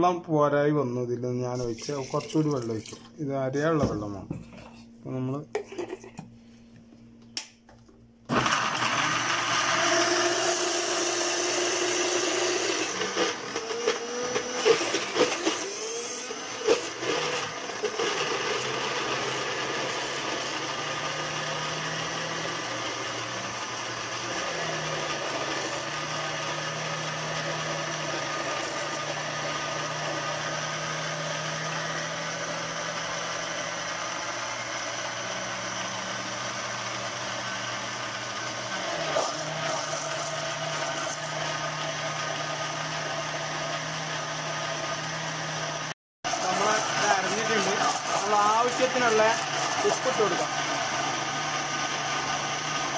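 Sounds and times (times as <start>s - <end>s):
mixer-grinder running: 8.3s - 52.9s.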